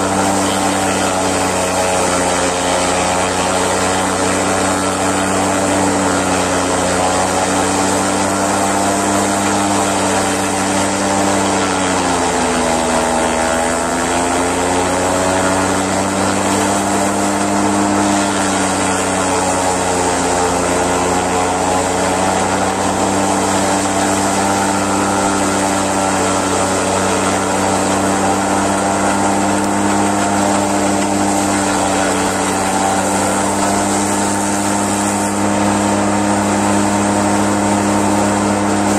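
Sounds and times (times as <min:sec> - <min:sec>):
forage chopper chopping grass: 0:00.0 - 0:38.9
tractor engine running: 0:00.0 - 0:38.9.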